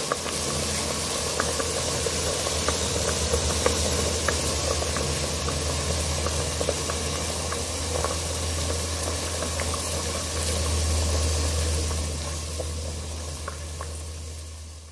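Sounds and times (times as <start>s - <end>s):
water boiling in a pot: 0.0s - 14.9s.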